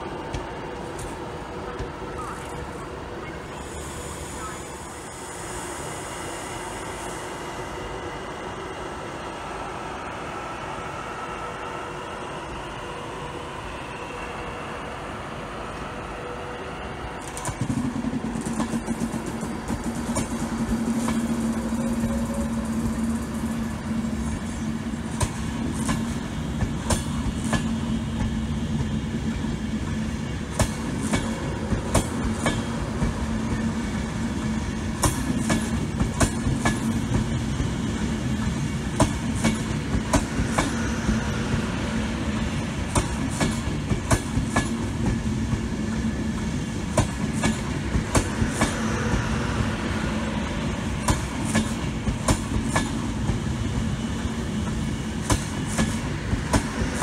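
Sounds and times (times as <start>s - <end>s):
train hum and rumble: 0.0s - 57.0s.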